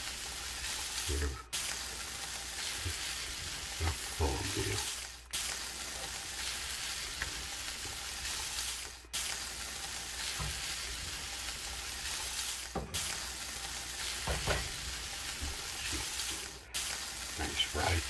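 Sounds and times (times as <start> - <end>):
chili sizzling in a skillet: 0.0 - 18.0.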